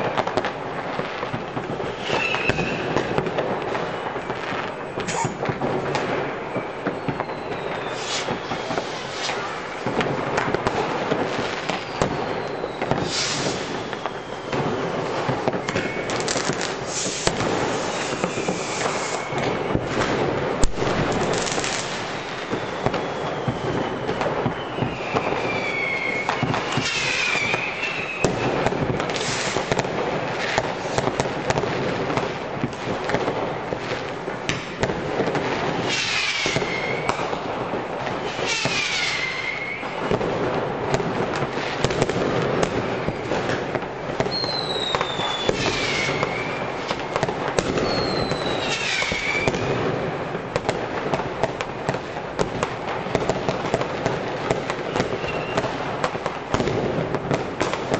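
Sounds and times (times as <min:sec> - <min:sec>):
firecrackers crackling: 0:00.0 - 0:57.9
whistling rockets: 0:00.0 - 0:57.9.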